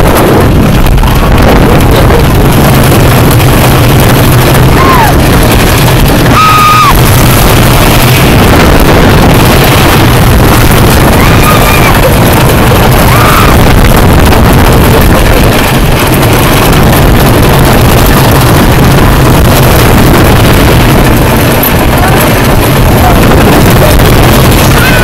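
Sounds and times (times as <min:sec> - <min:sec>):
roller coaster rumbling on track: 0:00.0 - 0:25.0
wind buffeting microphone: 0:00.0 - 0:25.0
riders crying out: 0:00.1 - 0:25.0.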